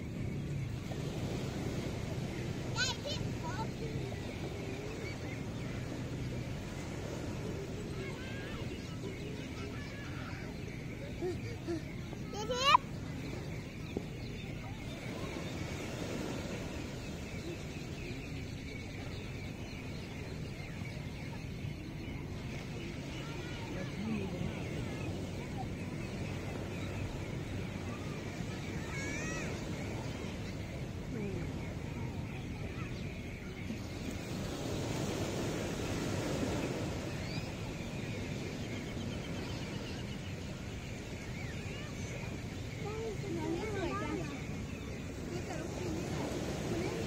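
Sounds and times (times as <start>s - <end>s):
ocean surf on sandy beach: 0.0s - 47.0s.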